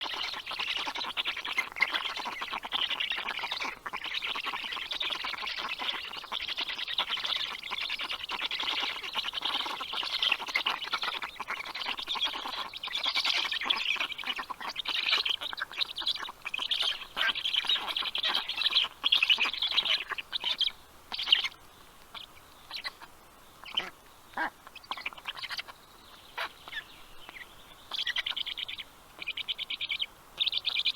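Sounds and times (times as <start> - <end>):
baby birds squawking: 0.0 - 30.9.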